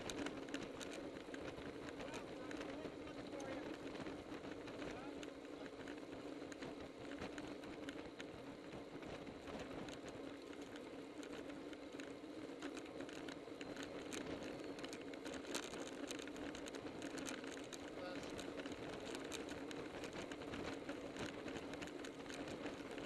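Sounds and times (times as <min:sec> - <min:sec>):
bicycle tyre noise: 0:00.0 - 0:23.0.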